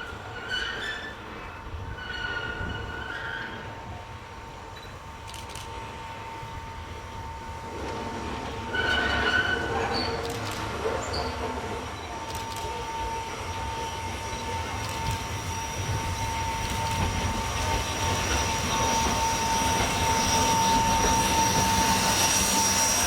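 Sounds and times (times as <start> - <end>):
high squeal from wheels: 0.0 - 4.0, 7.3 - 23.0
train rolling on track: 0.0 - 23.0.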